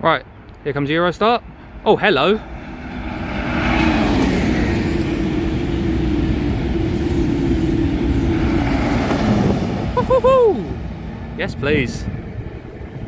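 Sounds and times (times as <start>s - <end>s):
high-speed train passing: 0.8s - 13.0s.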